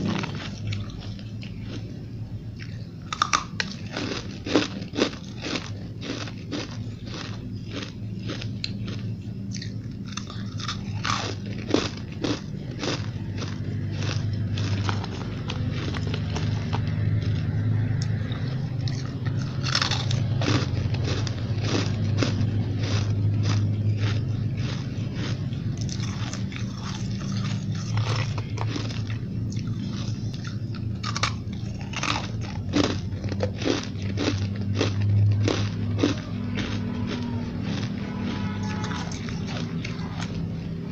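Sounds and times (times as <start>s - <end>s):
person chewing ice: 0.0s - 40.9s
steady low hum: 0.0s - 40.9s.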